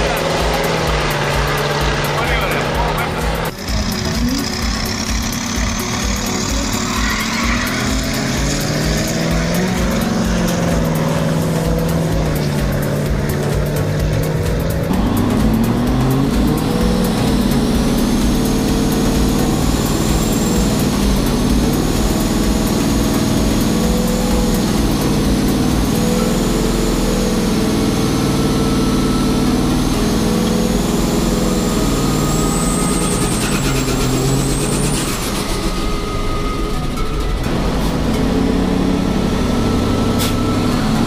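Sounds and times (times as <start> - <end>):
diesel truck engine revving: 0.0 - 41.0
high whine: 0.0 - 41.0.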